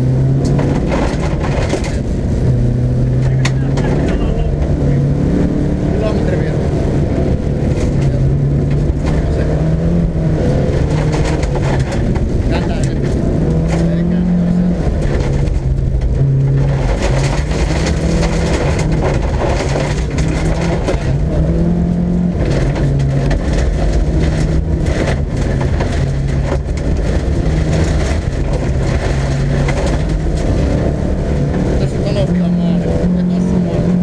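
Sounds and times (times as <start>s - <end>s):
diesel engine driven hard: 0.0s - 34.0s
gravel rattling under car: 0.0s - 34.0s.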